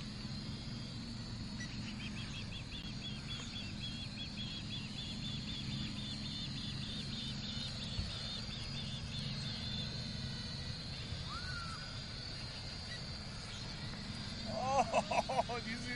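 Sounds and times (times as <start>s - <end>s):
steady low hum: 0.0s - 15.9s
osprey whistled chirps: 0.2s - 15.9s.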